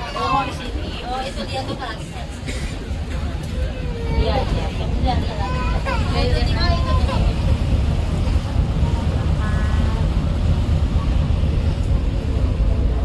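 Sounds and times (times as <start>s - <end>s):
ship and water noise: 0.0s - 13.0s
wind buffeting microphone: 0.6s - 13.0s.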